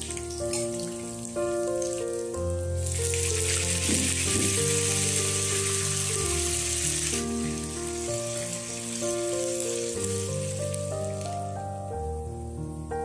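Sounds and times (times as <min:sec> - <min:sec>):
spices sizzling in hot oil: 0:00.0 - 0:11.8
background music with held notes: 0:00.0 - 0:13.0.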